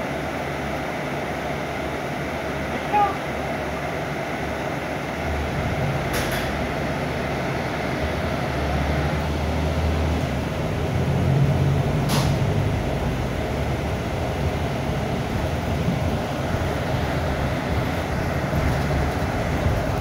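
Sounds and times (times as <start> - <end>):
bus diesel engine running: 0.0 - 20.0
cabin and road rumble: 1.0 - 20.0.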